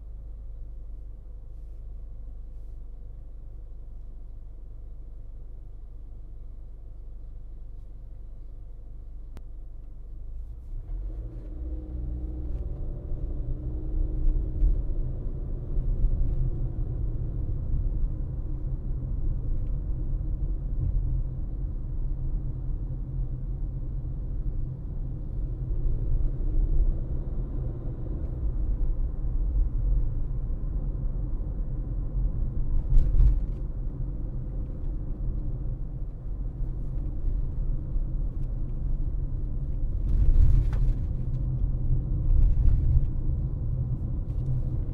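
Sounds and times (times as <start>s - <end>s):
car driving road noise: 0.0s - 44.9s.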